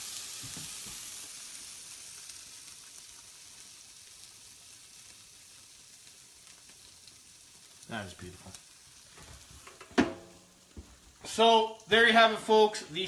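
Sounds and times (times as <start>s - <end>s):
frying pan sizzling: 0.0s - 13.0s.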